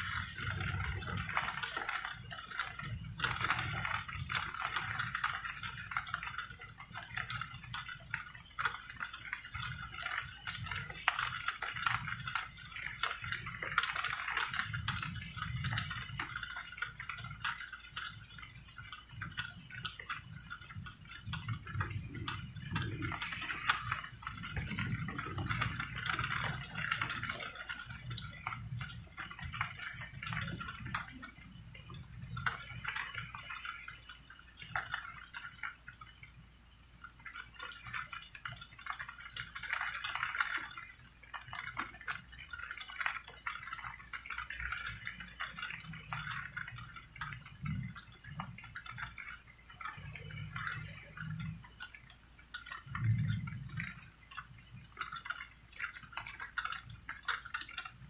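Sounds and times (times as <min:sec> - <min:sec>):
drops pattering and dripping: 0:00.0 - 0:58.0
rain falling steadily: 0:00.0 - 0:58.0.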